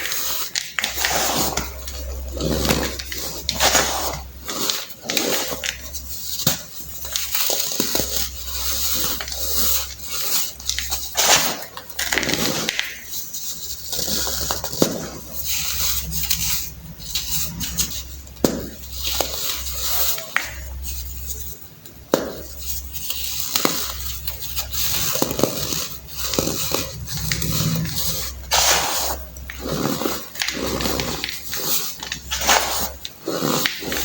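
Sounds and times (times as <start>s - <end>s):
baking soda being crushed: 0.0s - 34.0s.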